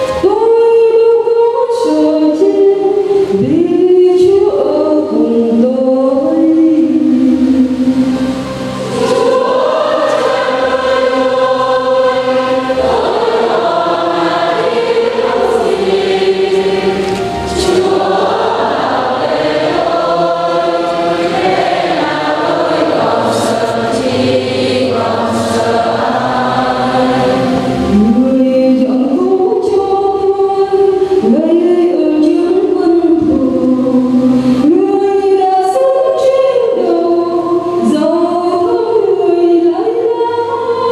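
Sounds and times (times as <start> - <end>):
choir singing a hymn: 0.0 - 40.9.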